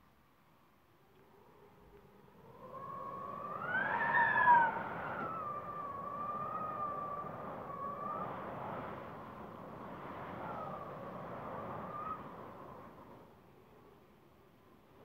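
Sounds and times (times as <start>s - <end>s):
wind howling and whistling: 0.8s - 15.0s.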